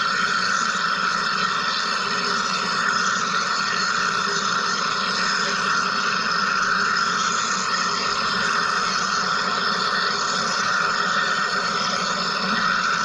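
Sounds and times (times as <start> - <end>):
machine humming and hissing: 0.0 - 13.0.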